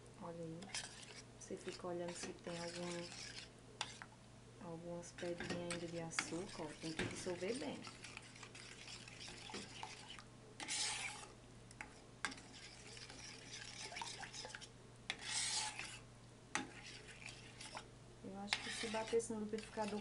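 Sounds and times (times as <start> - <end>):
metal spoon scraping a pan: 0.6 - 4.1, 5.0 - 16.0, 16.6 - 20.0.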